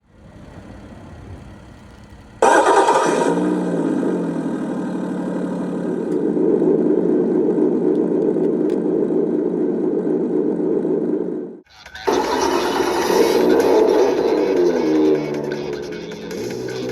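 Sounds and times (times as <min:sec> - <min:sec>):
simulated car engine starting: 0:00.0 - 0:16.9.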